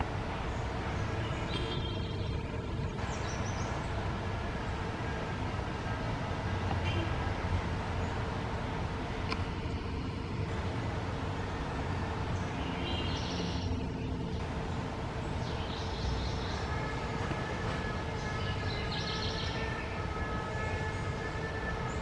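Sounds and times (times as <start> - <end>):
low rumbling hum: 0.0 - 22.0.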